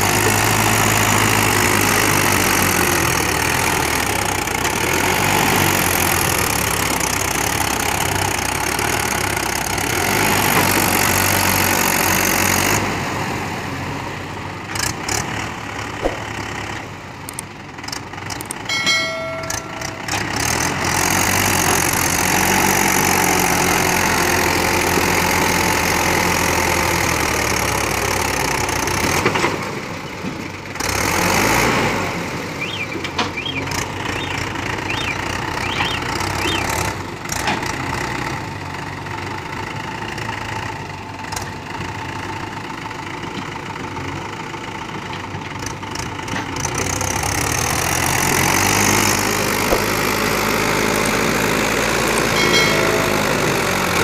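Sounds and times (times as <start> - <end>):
backhoe loader engine working: 0.0 - 54.0
tractor diesel engine under load: 0.0 - 54.0.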